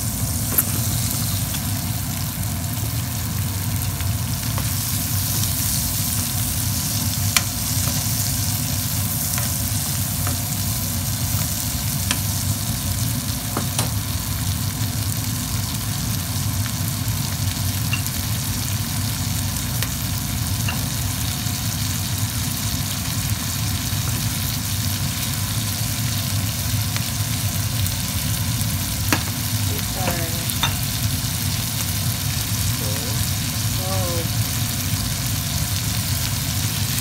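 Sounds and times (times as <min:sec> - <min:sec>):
green beans sizzling in skillet: 0:00.0 - 0:37.0.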